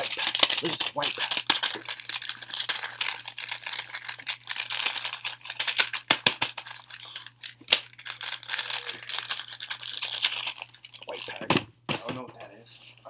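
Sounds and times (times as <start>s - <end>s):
packet crinkling: 0.0s - 11.6s.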